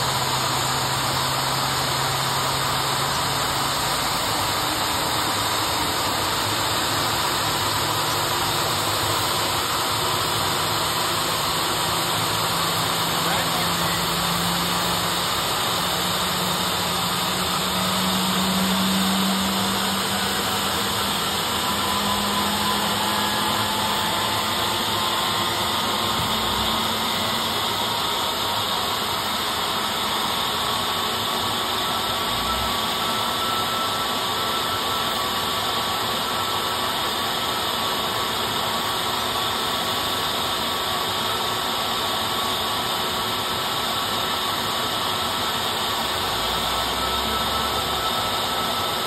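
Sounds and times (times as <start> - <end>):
jet engine turning with whine: 0.0 - 49.0.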